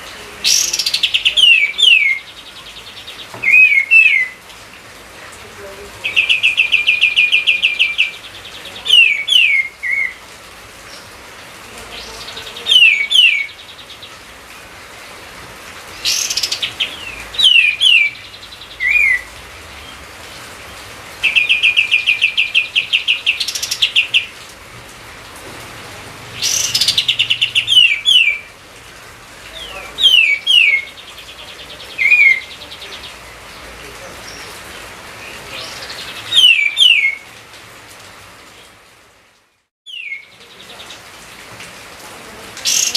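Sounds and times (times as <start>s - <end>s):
songbird singing: 0.0s - 24.6s, 25.2s - 37.5s, 39.8s - 41.4s, 42.2s - 42.9s.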